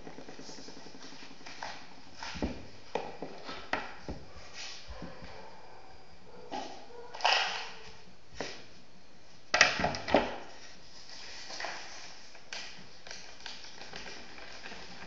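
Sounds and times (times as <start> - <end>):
steady hiss: 0.0 - 6.8, 7.6 - 15.0.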